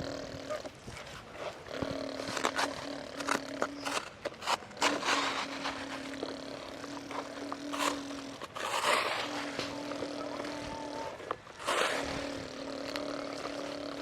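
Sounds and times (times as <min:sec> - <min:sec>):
scraping and clattering: 0:00.9 - 0:12.2.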